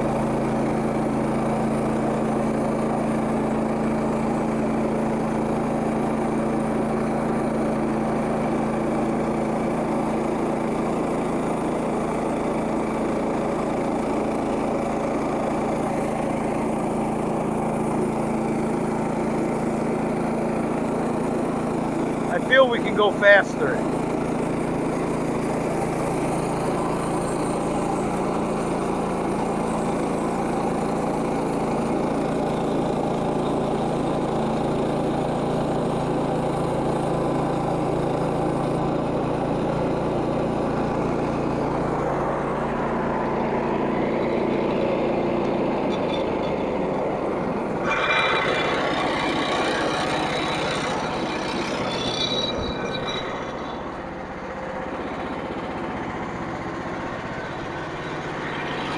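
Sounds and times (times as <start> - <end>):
sawmill engine running: 0.0 - 58.9.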